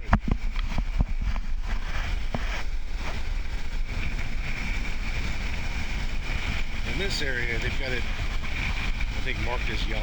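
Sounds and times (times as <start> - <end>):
surf washing: 0.0 - 10.0
wind on microphone: 0.0 - 10.0.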